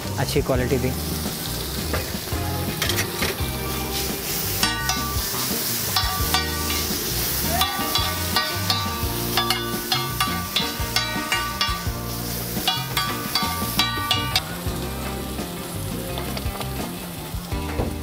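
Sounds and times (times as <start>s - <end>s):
food sizzling on griddle: 0.0s - 18.0s.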